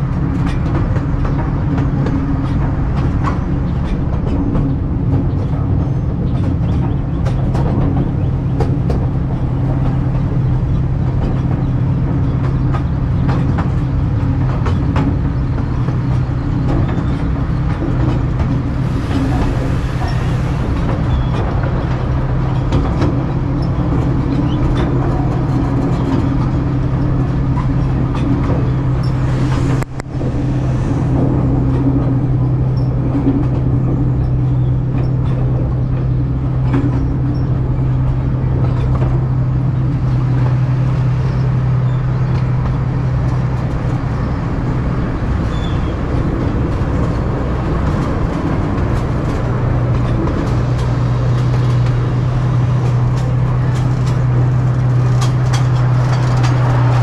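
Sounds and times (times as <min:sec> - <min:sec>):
miniature train engine hum: 0:00.0 - 0:57.0
train cars rumbling: 0:00.0 - 0:57.0.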